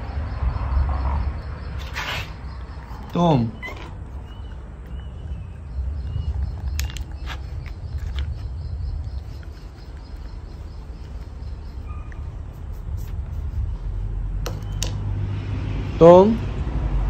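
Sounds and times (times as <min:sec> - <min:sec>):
faint insect drone: 0:00.0 - 0:14.4.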